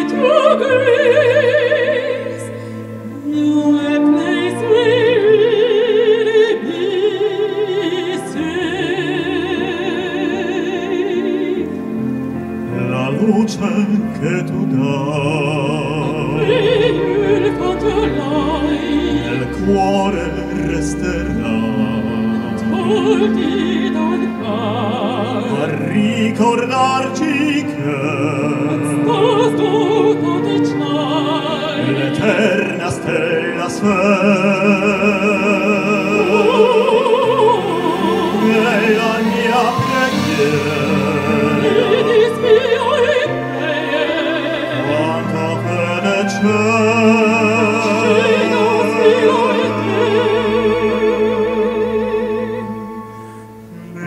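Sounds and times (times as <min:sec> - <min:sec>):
operatic singing: 0:00.0 - 0:54.0
symphony orchestra: 0:00.0 - 0:54.0.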